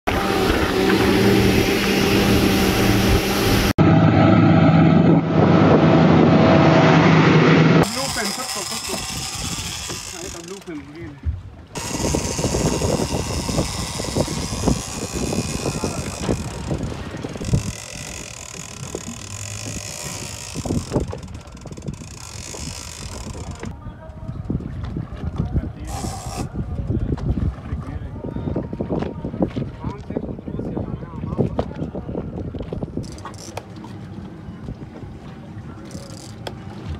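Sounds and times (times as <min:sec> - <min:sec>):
boat and water noise: 0:00.0 - 0:36.9
wake and wind rushing: 0:00.1 - 0:08.0, 0:08.7 - 0:36.9
outboard motors droning: 0:00.1 - 0:36.9.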